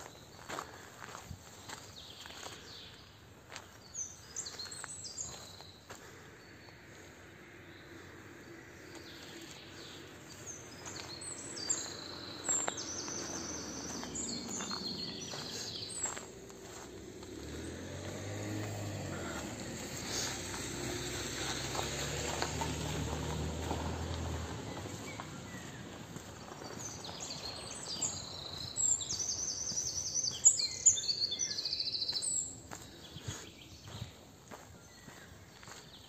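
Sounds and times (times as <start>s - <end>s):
songbirds singing: 0.0s - 36.0s.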